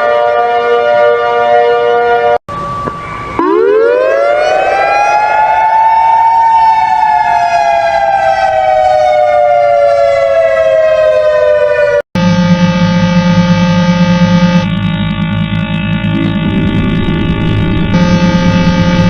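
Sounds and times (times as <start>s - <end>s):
emergency warning siren wailing: 0.0s - 19.0s.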